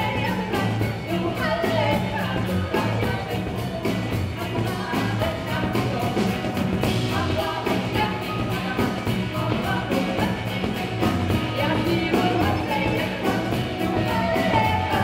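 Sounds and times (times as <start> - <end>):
drum beat: 0.0 - 15.0
live band music: 0.0 - 15.0
women singing: 0.0 - 15.0.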